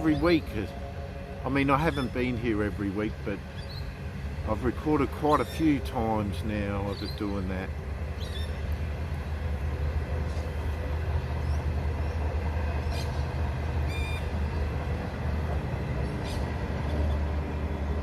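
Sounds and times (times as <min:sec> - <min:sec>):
train rolling over bridge: 0:00.0 - 0:18.0.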